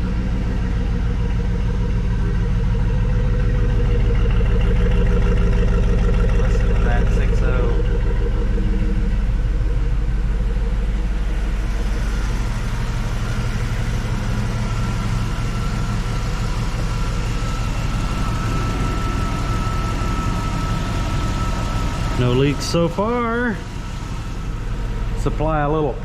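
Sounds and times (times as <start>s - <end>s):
engine idling: 0.0s - 26.0s
thin steady whine: 0.0s - 26.0s.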